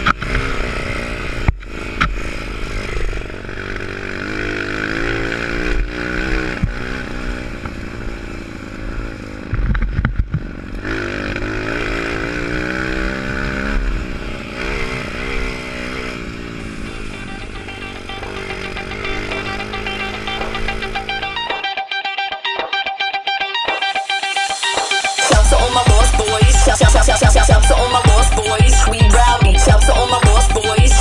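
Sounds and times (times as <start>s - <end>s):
motorbike engine revving: 0.0s - 21.8s, 24.0s - 31.0s.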